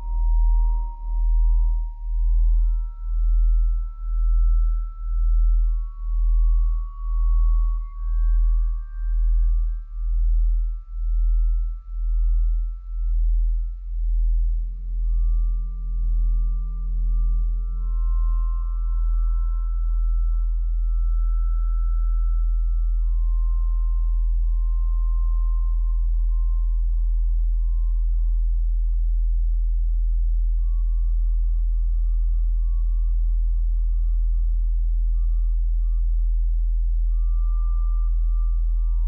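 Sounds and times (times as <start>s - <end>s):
deep low hum: 0.0s - 39.0s.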